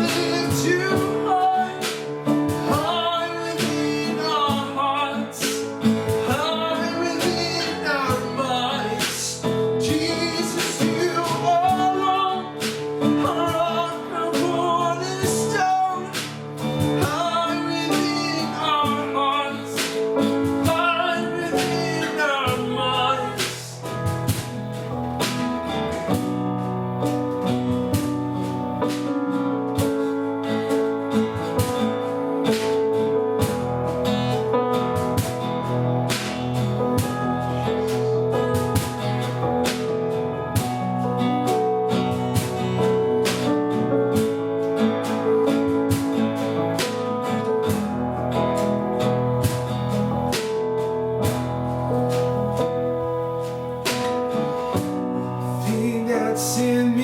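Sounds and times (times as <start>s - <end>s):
guitar and instruments: 0.0s - 57.0s.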